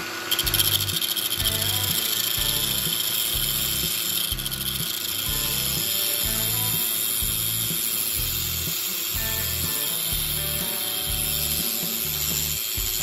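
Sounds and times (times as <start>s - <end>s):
angle grinder grinding metal: 0.0s - 13.0s
background music with steady beat: 0.4s - 13.0s.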